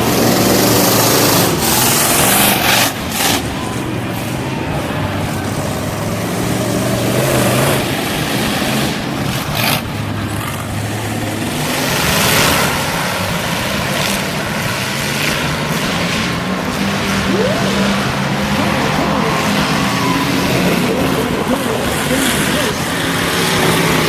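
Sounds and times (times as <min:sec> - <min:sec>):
race car engines: 0:00.0 - 0:24.0
rush of noise: 0:00.0 - 0:24.0.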